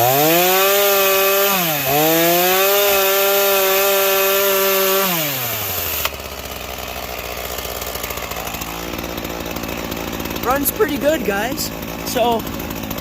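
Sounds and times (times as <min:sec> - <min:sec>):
chainsaw engine revving and idling: 0:00.0 - 0:13.0.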